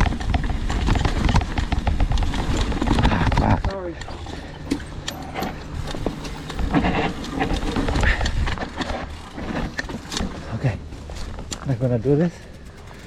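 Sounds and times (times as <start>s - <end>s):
bike rattling over bumps: 0.0s - 13.0s
wind and tyre rumble: 0.0s - 13.0s.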